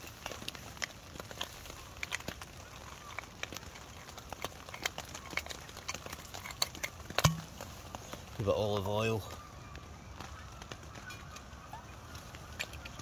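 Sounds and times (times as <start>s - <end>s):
twig fire crackling and popping: 0.0s - 13.0s.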